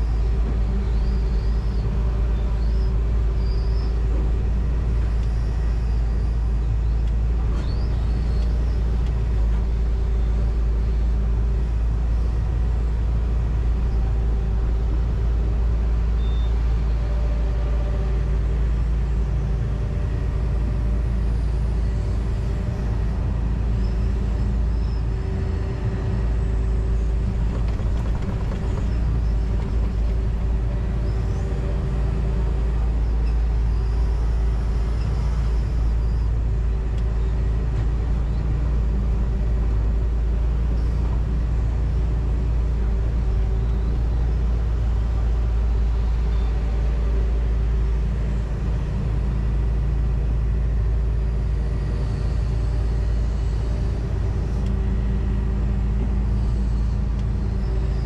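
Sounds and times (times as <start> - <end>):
excavator diesel engine drone: 0.0 - 58.0.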